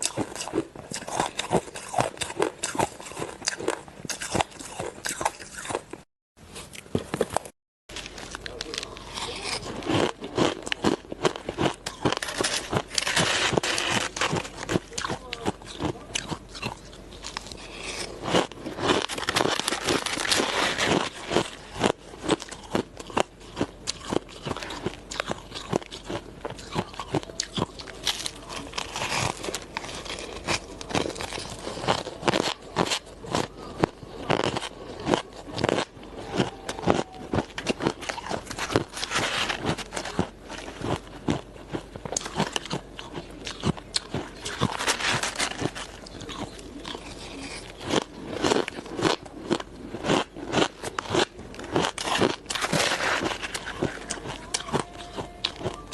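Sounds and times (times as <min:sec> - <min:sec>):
person chewing hard ice: 0:00.0 - 0:55.9.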